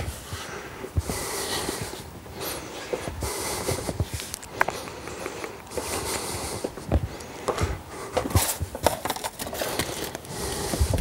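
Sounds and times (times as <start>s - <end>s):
footsteps: 0.0s - 11.0s.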